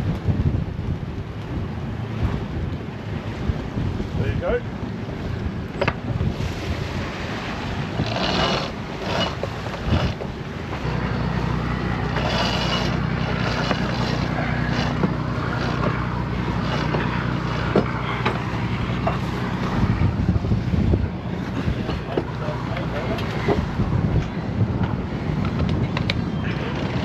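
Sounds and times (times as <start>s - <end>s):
low mechanical hum: 0.0s - 27.0s
water rushing around boat: 0.0s - 27.0s
wind buffeting: 0.0s - 27.0s.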